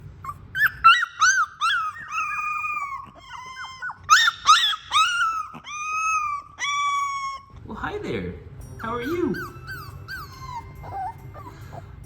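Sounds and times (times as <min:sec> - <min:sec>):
puppies whining and yelping: 0:00.1 - 0:07.6, 0:08.7 - 0:12.0.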